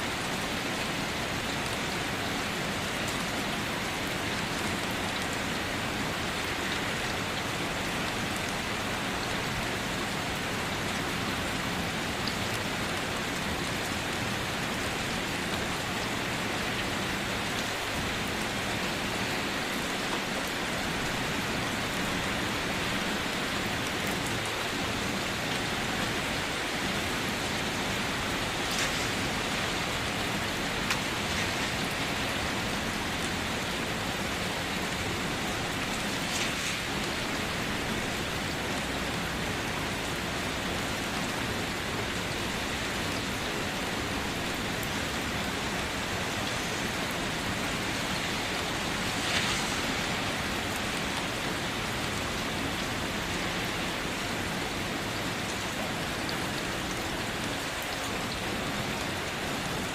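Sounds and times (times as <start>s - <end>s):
rain falling on a car: 0.0s - 59.9s.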